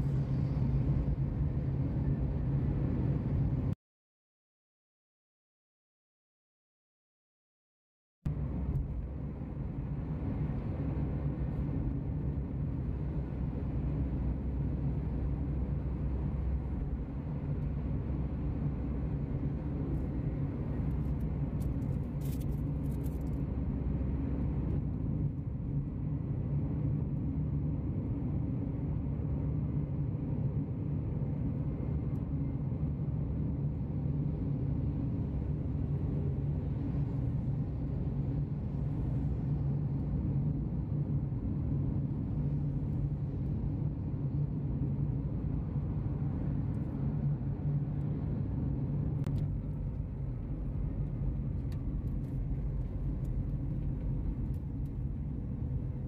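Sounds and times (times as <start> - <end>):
vehicle engine and road noise: 0.0 - 3.8, 8.3 - 56.0.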